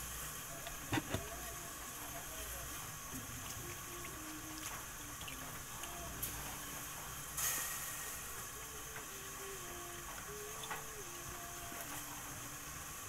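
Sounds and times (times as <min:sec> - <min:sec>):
soup simmering hiss: 0:00.0 - 0:13.0.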